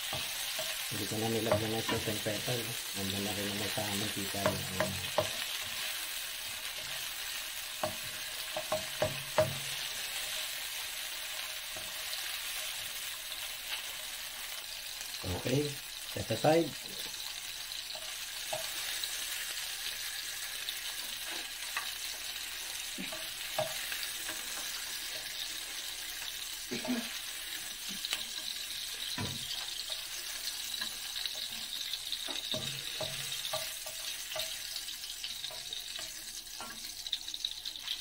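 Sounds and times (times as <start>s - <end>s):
oil sizzling in a wok: 0.0s - 38.0s.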